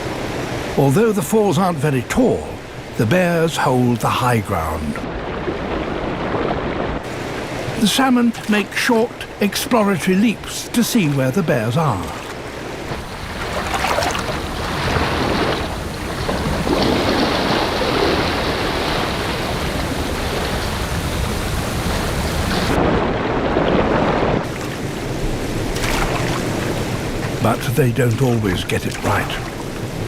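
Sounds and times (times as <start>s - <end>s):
waterfall and rapids rushing: 0.0s - 30.0s.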